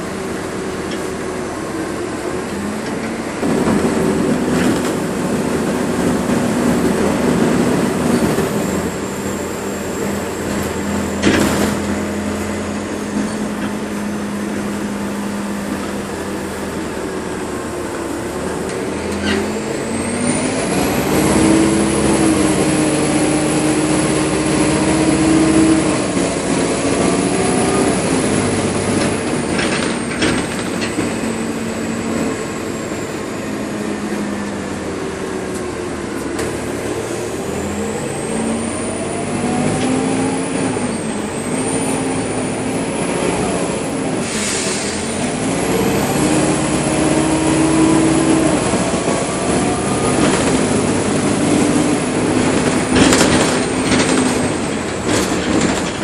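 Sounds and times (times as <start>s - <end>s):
bus engine hum: 0.0s - 56.0s
road noise: 0.0s - 56.0s.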